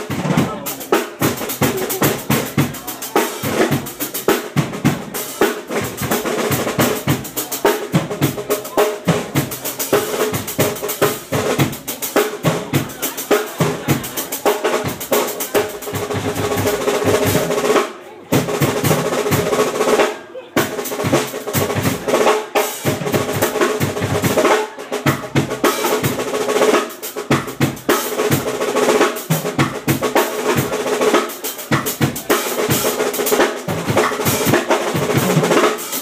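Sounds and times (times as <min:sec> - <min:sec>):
drum kit solo: 0:00.0 - 0:36.0.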